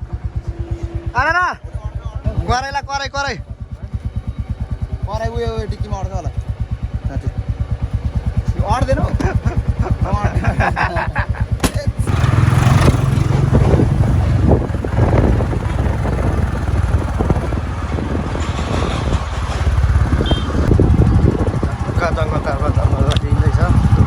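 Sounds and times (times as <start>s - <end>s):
motorcycle engine chugging: 0.0s - 24.0s.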